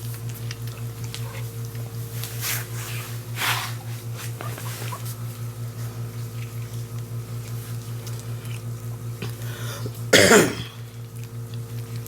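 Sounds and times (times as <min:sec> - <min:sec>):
puppies eating wet mouth noises: 0:00.0 - 0:10.1, 0:10.7 - 0:12.0.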